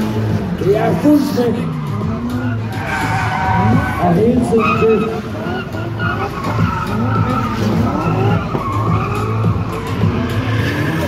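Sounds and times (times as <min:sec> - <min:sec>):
car engines revving: 0:00.0 - 0:11.0
tyres screeching: 0:00.6 - 0:11.0.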